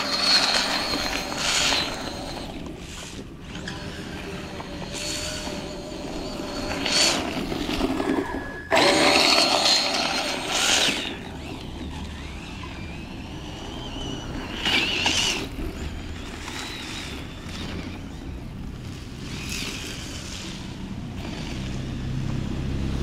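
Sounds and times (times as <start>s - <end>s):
toy car electric motor whining: 0.0s - 22.5s
tyres on snow: 0.0s - 23.0s.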